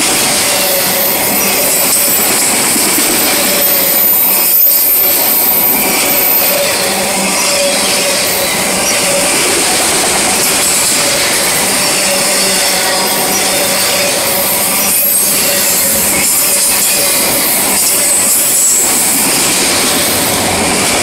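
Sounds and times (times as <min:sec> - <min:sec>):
steel wheels rattling on rail: 0:00.0 - 0:21.0.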